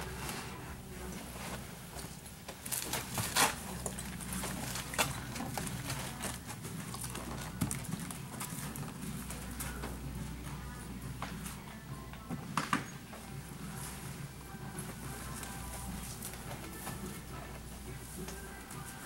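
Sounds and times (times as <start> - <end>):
horse hoofbeats walking: 1.0 - 19.0.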